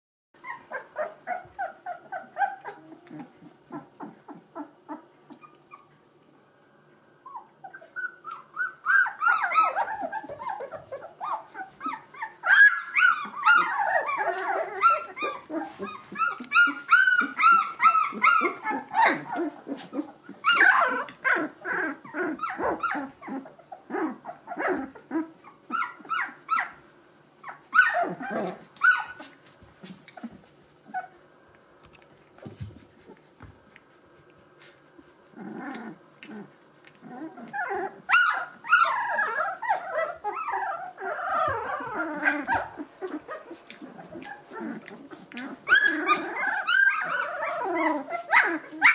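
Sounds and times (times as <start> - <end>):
puppies whining and squeaking: 0.4 - 6.3, 7.1 - 31.2, 32.0 - 48.9.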